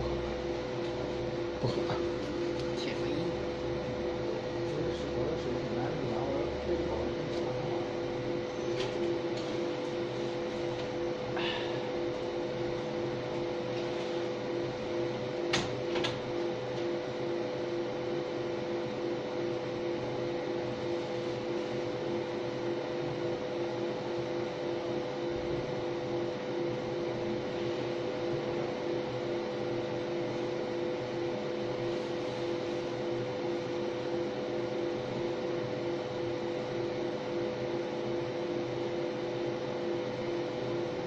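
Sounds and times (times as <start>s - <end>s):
laser machine humming and buzzing: 0.0s - 41.0s.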